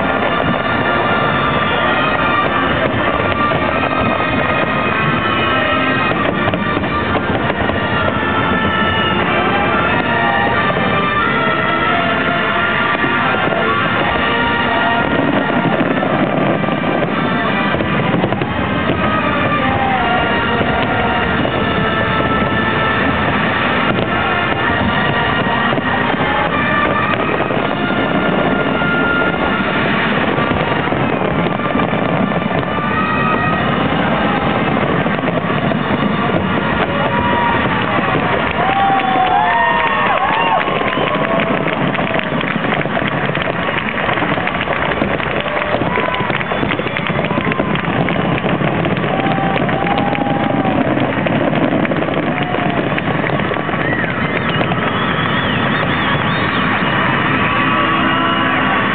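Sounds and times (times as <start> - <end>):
fireworks bursts and crackling: 0.0 - 58.9.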